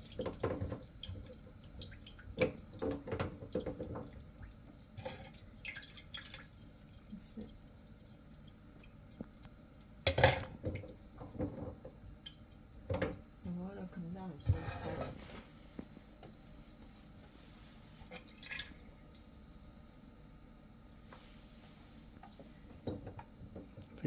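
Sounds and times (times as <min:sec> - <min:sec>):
water dripping and trickling: 0:00.0 - 0:13.9, 0:16.2 - 0:23.8.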